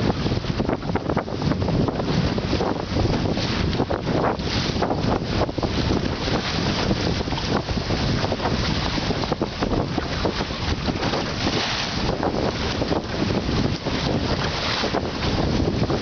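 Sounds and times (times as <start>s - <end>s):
water splashing along boat hull: 0.0s - 16.0s
wind buffeting microphone: 0.0s - 16.0s.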